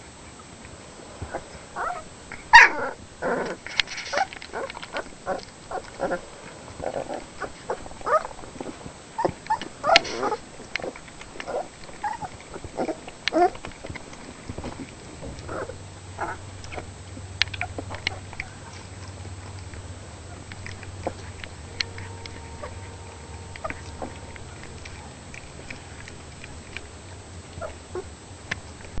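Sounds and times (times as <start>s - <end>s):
low hum: 0.0s - 29.0s
puppies squeaking and whining: 1.3s - 16.9s, 17.6s - 26.9s, 27.5s - 28.1s.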